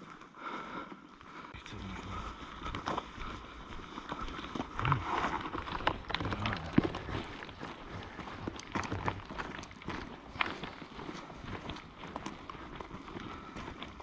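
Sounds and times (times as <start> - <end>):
footsteps crunching: 0.0 - 14.0.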